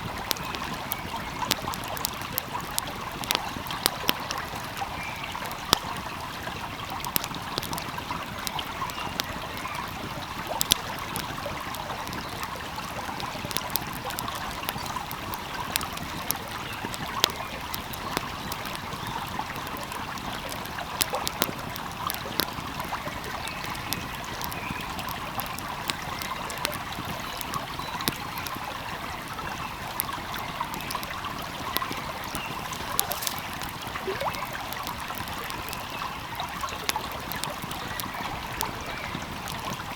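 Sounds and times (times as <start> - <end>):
stream flowing: 0.0 - 39.9
wood fire crackling: 0.0 - 39.9.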